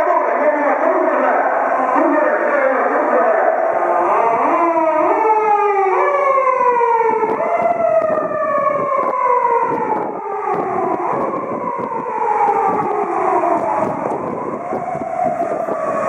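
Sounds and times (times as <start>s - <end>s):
police siren wailing: 0.0s - 16.0s.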